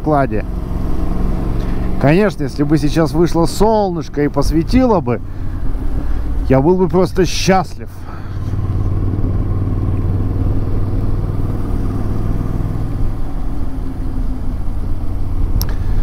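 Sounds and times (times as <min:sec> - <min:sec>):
air and road noise: 0:00.0 - 0:16.0
motorcycle engine cruising: 0:00.0 - 0:16.0.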